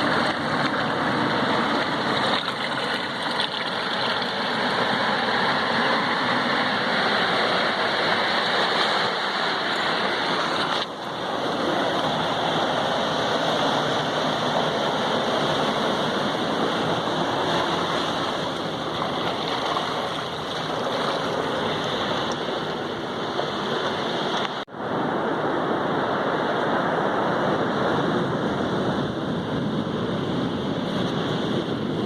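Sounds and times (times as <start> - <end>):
sea waves washing on shore: 0.0 - 32.0.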